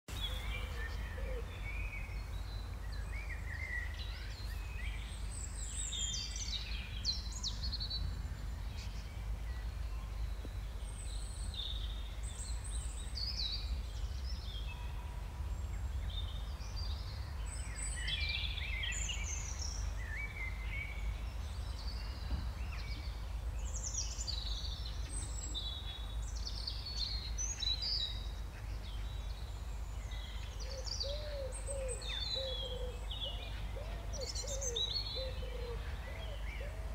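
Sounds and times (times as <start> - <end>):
small birds chirping and singing: 0.1 - 36.9.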